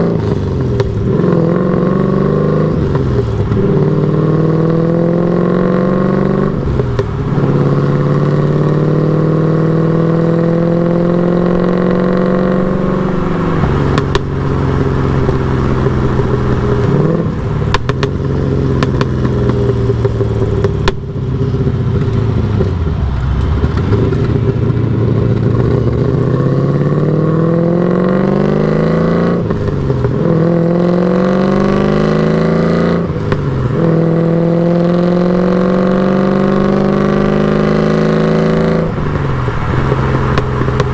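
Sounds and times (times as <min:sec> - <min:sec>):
car engine accelerating through gears: 0:00.0 - 0:40.9.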